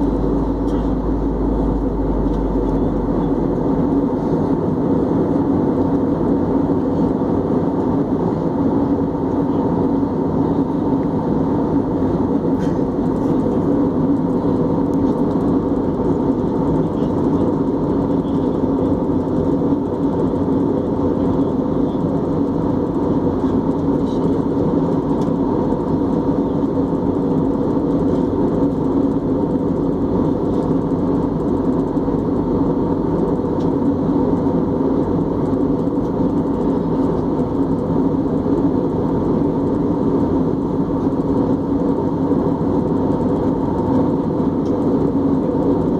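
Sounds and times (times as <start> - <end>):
constant hum of held tones: 0.0 - 45.9
jet engine drone: 0.0 - 45.9.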